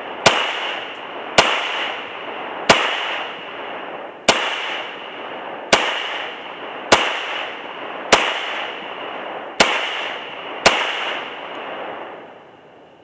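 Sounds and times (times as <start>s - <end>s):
pistol shots with echo: 0.0s - 12.2s.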